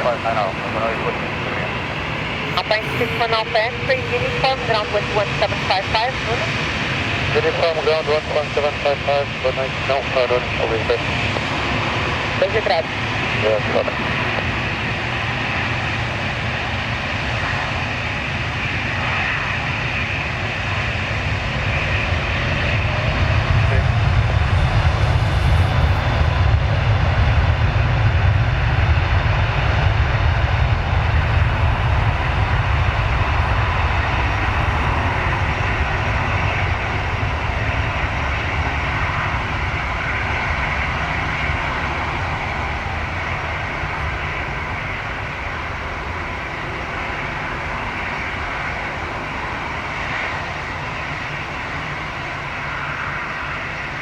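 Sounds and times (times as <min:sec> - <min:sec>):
airliner engines rumbling: 0:00.0 - 0:54.0.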